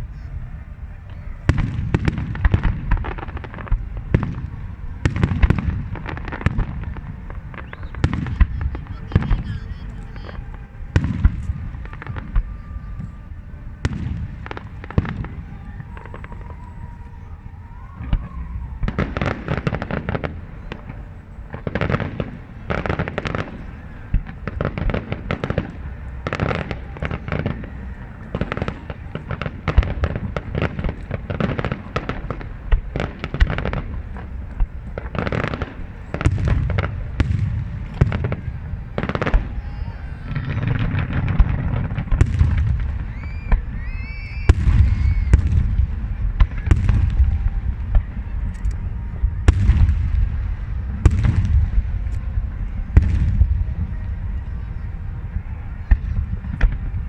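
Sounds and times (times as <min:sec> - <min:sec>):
fireworks bursting: 0:00.0 - 0:57.0
low fireworks rumble: 0:00.0 - 0:57.0.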